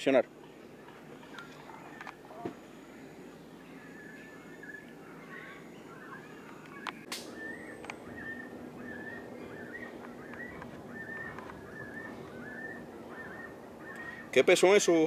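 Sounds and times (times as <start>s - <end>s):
low background noise: 0.0s - 15.0s
bird chirping: 0.3s - 14.8s.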